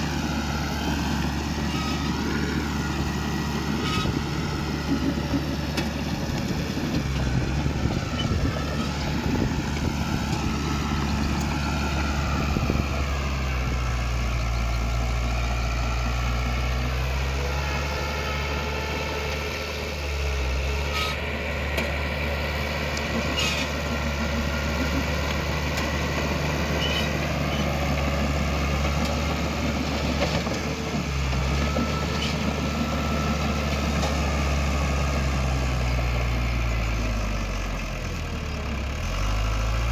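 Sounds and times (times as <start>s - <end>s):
heavy diesel machinery engine: 0.0s - 39.9s.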